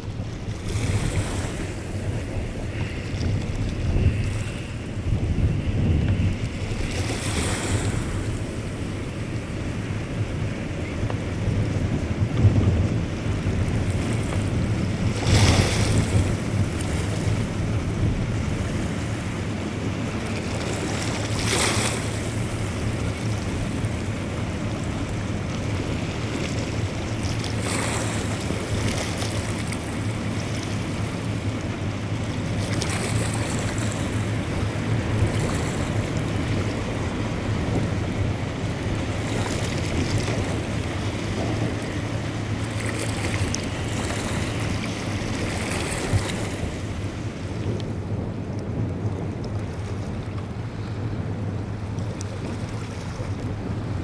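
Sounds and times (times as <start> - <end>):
low drone: 0.0 - 54.0
wind buffeting microphone: 0.0 - 54.0.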